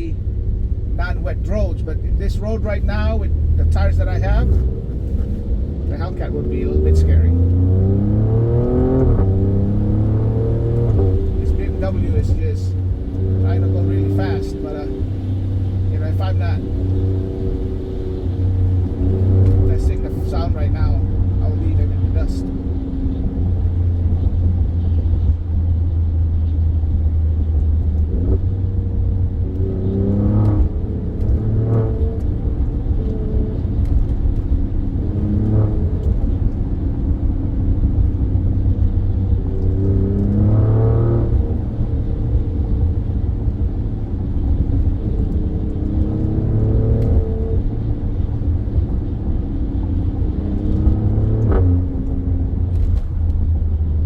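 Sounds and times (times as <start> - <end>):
low road rumble: 0.0 - 54.0
car engine revving hard: 2.2 - 24.6, 29.4 - 36.5, 37.5 - 48.9, 49.8 - 53.2.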